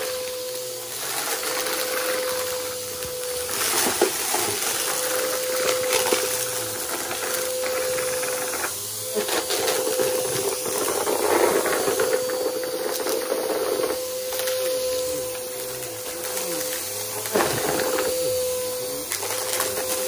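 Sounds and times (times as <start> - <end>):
vacuum cleaner running: 0.0 - 20.0
debris crackling in vacuum: 0.2 - 20.0.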